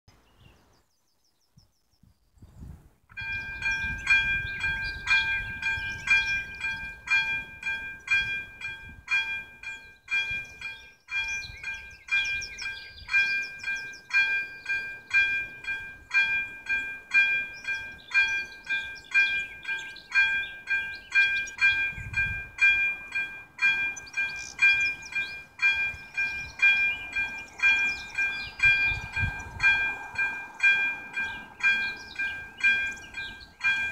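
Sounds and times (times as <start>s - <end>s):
level-crossing warning bell: 3.1s - 33.9s.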